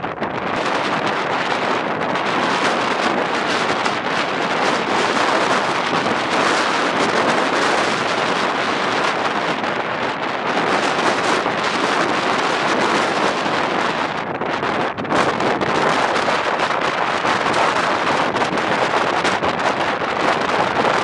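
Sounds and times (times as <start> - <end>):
storm wind rushing: 0.0 - 21.0.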